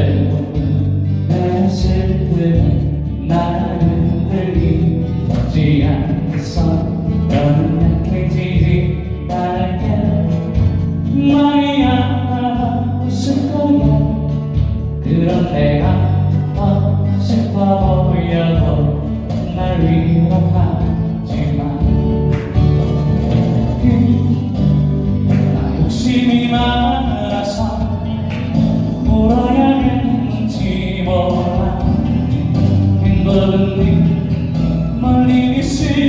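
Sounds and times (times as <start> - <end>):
song with beat and bass: 0.0 - 36.0.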